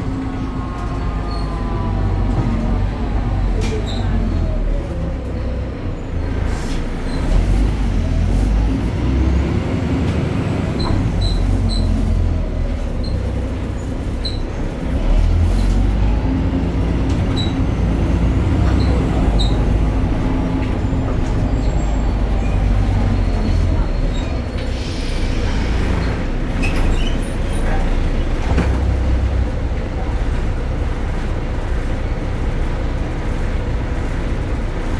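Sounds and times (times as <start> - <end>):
bus diesel engine rumble: 0.0 - 34.9.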